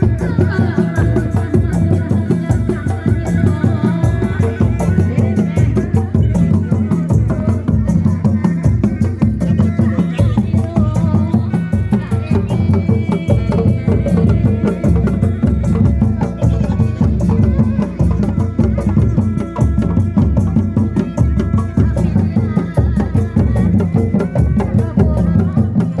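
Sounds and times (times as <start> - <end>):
fast steady drumming: 0.0 - 26.0.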